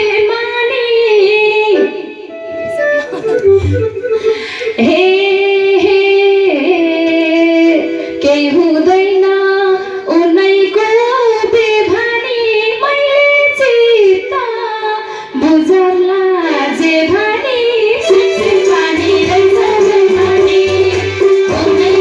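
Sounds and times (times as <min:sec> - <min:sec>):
woman singing into a microphone: 0:00.0 - 0:02.3, 0:03.6 - 0:22.0.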